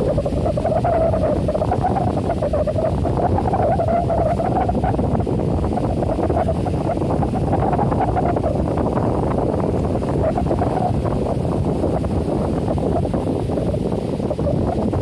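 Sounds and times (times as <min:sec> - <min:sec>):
wavering hum: 0:00.0 - 0:15.0
wind rumbling on microphone: 0:00.0 - 0:15.0.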